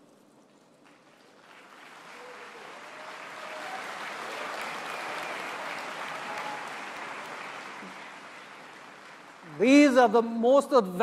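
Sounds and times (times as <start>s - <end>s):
large audience applauding: 0.8s - 10.0s.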